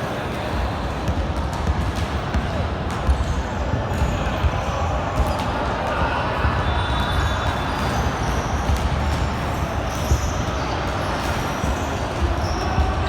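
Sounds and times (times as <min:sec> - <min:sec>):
din of players and onlookers: 0:00.0 - 0:13.0
basketball bounces: 0:00.3 - 0:13.0
sneaker squeaks: 0:00.3 - 0:13.0.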